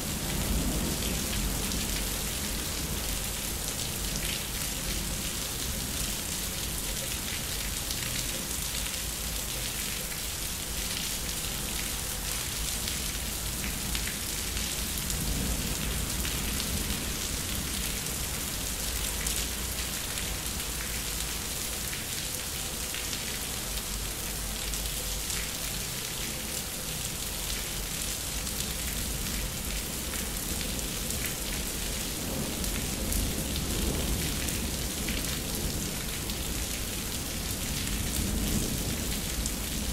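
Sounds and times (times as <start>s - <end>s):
rain on concrete: 0.0s - 39.9s.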